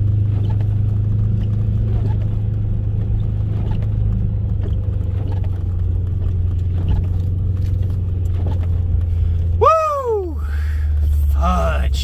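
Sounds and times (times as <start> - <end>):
off-road vehicle engine droning: 0.0 - 12.0.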